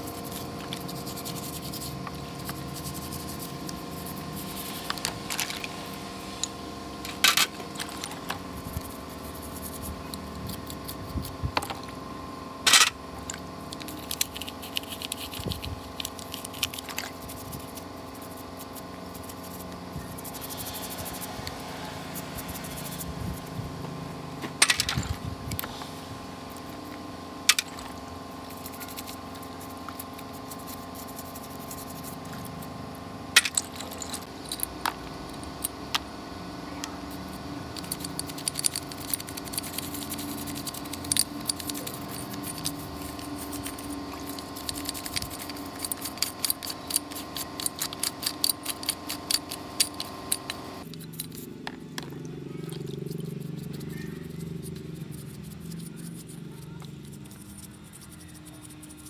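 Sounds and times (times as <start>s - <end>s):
brush scrubbing metal fins: 0.0s - 11.8s, 12.7s - 23.5s, 27.5s - 32.7s, 37.1s - 51.5s, 52.6s - 59.0s.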